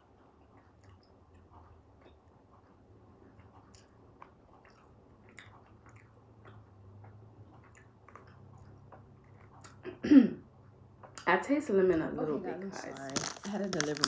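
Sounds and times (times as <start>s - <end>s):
chewing gummy candy: 0.0s - 10.0s, 12.7s - 14.0s.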